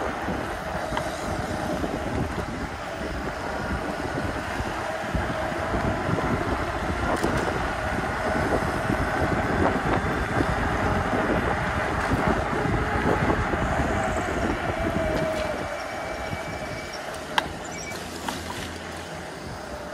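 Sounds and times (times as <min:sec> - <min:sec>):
rolling road noise: 0:00.0 - 0:19.9
wind buffeting microphone: 0:00.0 - 0:19.9.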